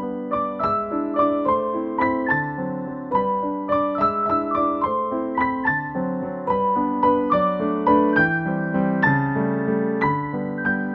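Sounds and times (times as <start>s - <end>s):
gentle piano music: 0.0s - 10.9s.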